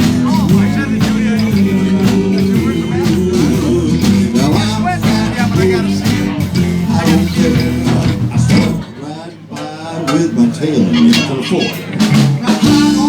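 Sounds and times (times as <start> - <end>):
bass guitar: 0.0 - 8.9, 11.2 - 13.0
electric guitar: 0.0 - 9.0, 11.0 - 13.0
drums: 0.0 - 13.0.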